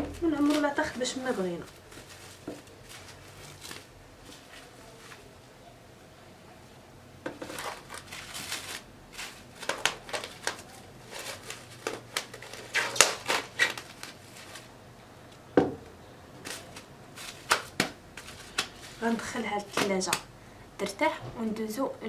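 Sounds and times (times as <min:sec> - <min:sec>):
cling film crinkling: 0:00.0 - 0:05.6, 0:07.4 - 0:15.4, 0:16.3 - 0:21.0.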